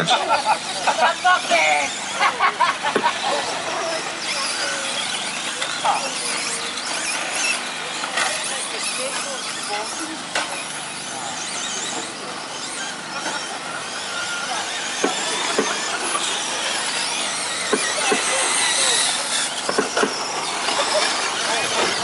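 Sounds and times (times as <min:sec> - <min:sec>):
rc truck motors whining: 0:00.0 - 0:22.0.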